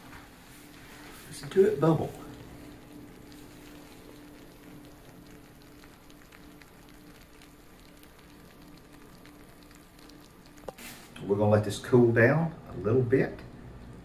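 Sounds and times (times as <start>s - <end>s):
baked cake bubbling and crackling: 0.0s - 14.0s
steady hum: 0.0s - 14.0s.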